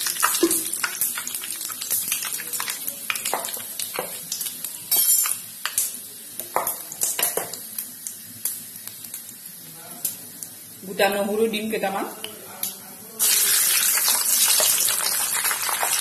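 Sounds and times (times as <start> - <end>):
seeds frying in oil crackling: 0.0 - 16.0.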